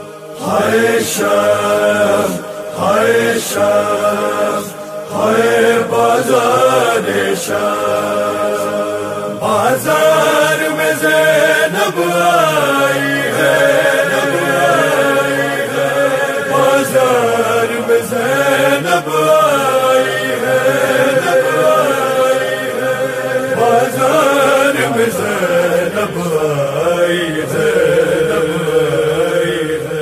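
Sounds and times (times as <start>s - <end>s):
voices chanting mourning lament: 0.0s - 30.0s.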